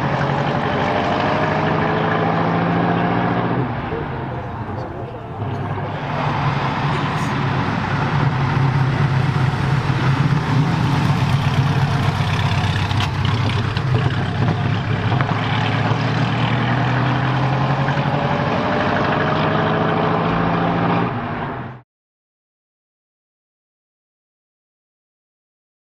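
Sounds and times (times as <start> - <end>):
car engine running: 0.0 - 21.8.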